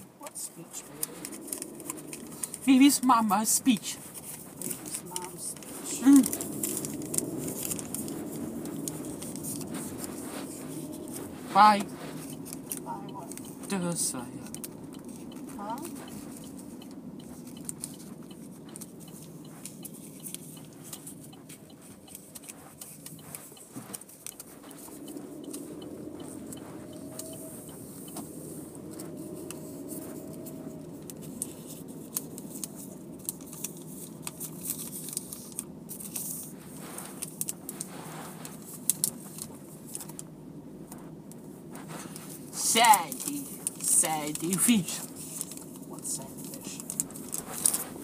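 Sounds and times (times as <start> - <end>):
car wash machinery rumble: 0.0 - 48.0.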